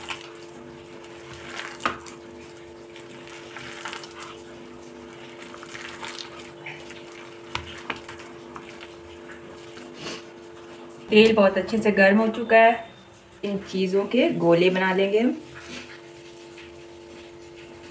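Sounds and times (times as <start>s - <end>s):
hand squishing vegetable mix: 0.0s - 17.9s.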